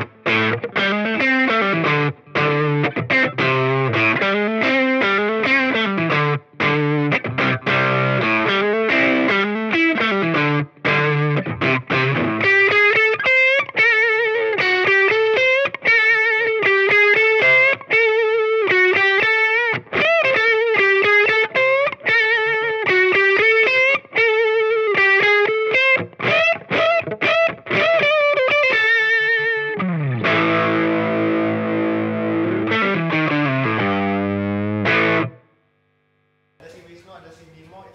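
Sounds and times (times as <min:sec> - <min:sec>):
overdriven electric guitar: 0:00.0 - 0:36.5.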